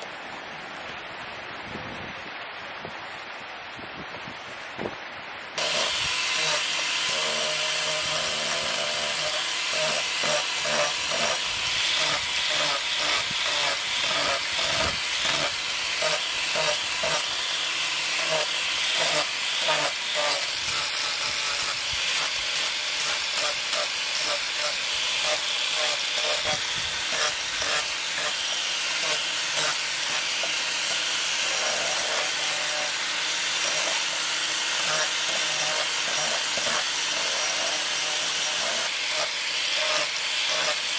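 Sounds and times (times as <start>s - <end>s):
angle grinder sanding wood: 5.6s - 40.9s.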